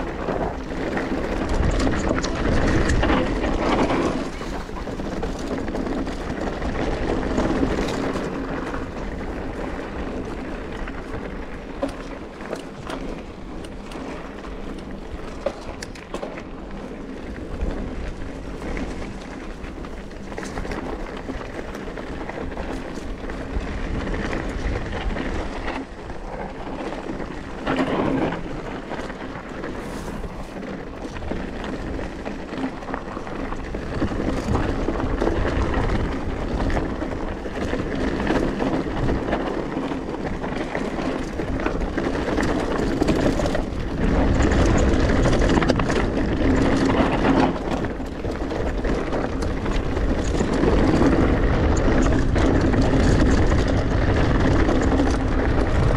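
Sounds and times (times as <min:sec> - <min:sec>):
bike rattling: 0:00.0 - 0:55.9
bike tyres rolling on dirt: 0:00.0 - 0:55.9
wind buffeting microphone: 0:00.0 - 0:55.9.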